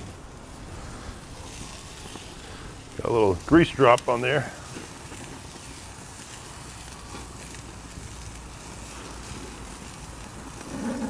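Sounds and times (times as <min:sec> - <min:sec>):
faint crackles: 0:00.0 - 0:11.0
grill burner rumble: 0:00.0 - 0:11.0
meat fat sizzling on grill: 0:00.0 - 0:11.0.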